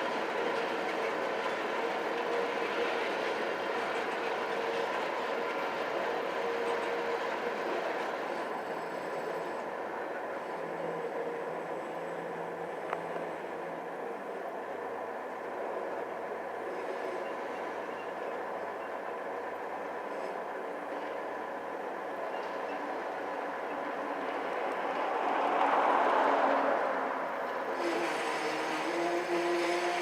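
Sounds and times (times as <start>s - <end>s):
train cars rumbling on rails: 0.0s - 30.0s.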